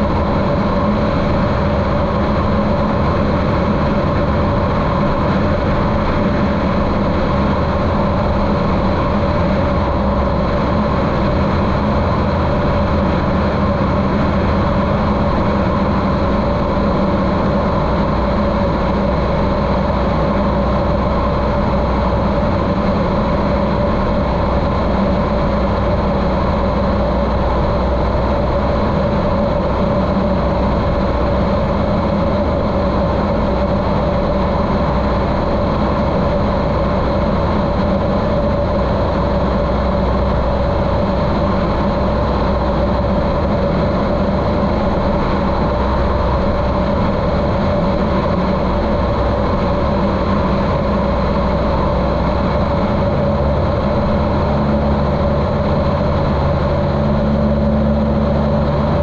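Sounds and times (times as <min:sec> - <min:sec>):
muffled light aircraft engine droning: 0:00.0 - 0:59.0.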